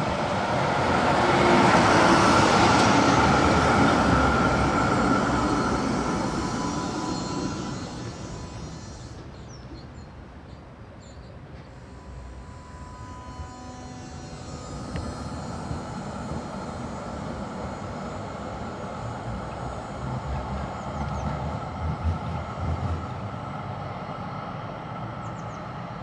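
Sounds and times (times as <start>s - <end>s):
tram steady whine: 0.0s - 26.0s
tram wheels rumbling on rails: 0.0s - 26.0s.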